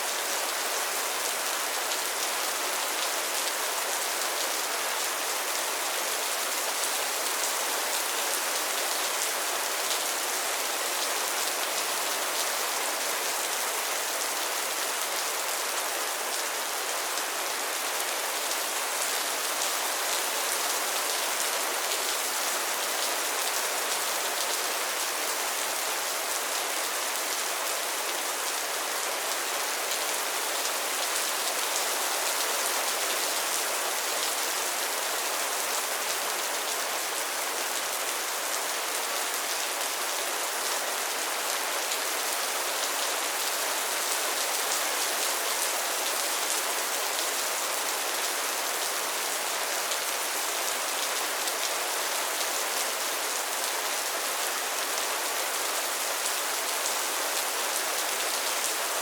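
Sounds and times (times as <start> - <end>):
rain falling on pond water: 0.0 - 59.0.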